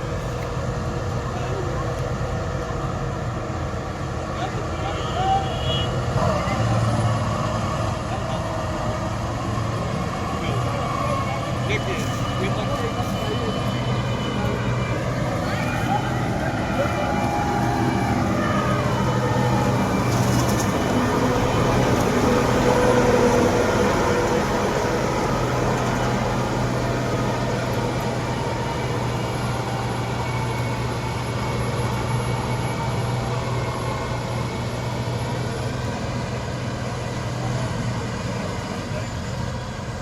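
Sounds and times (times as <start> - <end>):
diesel engine running steadily: 0.0 - 40.0.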